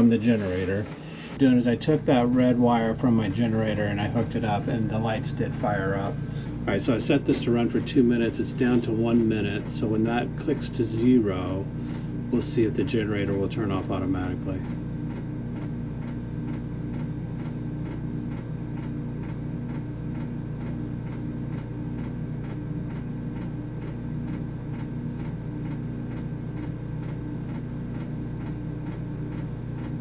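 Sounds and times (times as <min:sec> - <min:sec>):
generator humming: 0:00.0 - 0:30.0.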